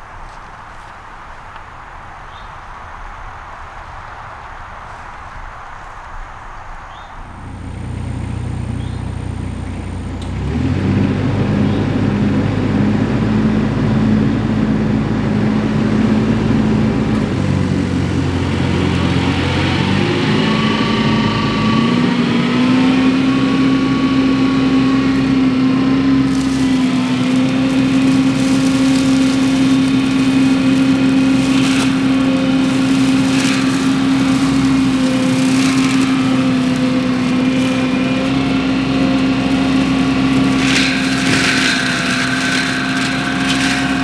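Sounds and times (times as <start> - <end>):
skid steer engine running: 7.2 - 44.0.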